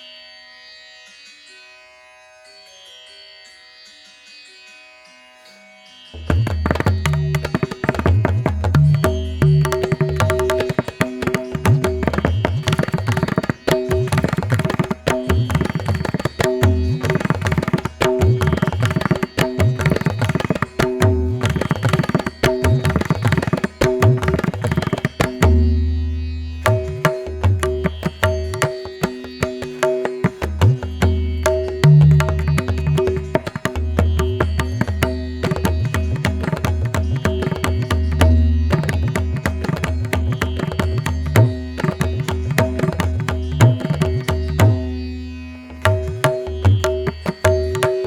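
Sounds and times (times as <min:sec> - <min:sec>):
tabla-like drumming: 0:06.2 - 0:48.0.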